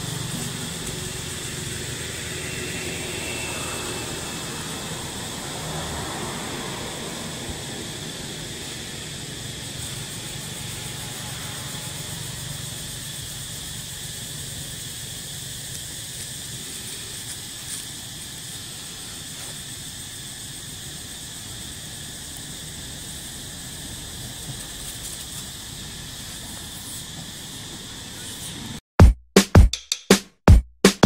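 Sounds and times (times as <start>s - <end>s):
high insect drone: 0.0s - 28.8s.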